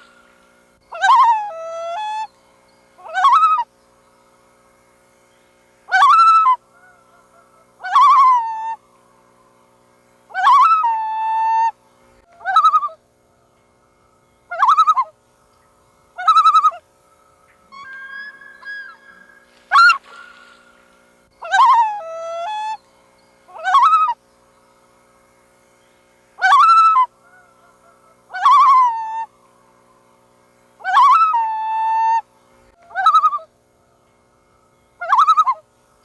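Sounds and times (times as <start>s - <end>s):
loons calling: 0.0s - 35.8s.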